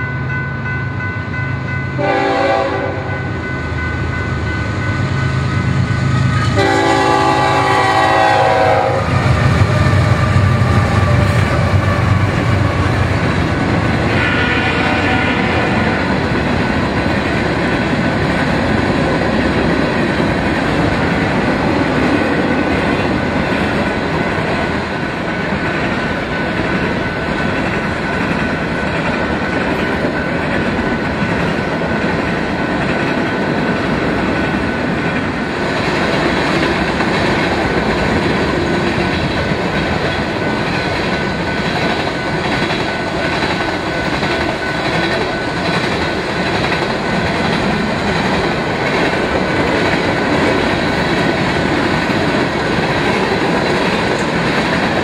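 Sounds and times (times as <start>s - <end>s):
steel wheels on rail clickety-clack: 2.0s - 55.0s.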